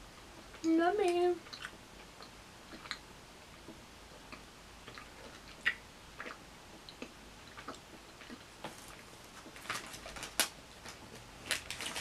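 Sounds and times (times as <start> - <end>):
person chewing snack bar: 1.4 - 3.0, 3.6 - 12.0.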